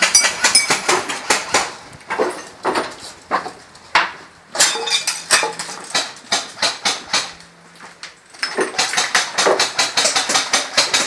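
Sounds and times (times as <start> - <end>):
sharp knocks and clatters: 0.0 - 11.0.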